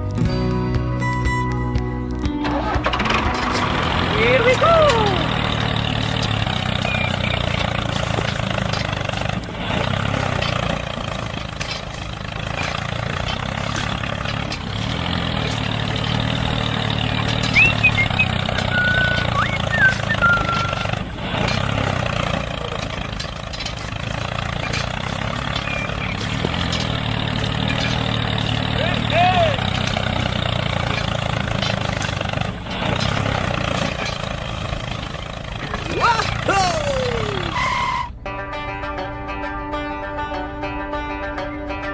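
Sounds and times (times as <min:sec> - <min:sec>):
mini tractor engine running: 0:02.2 - 0:38.4.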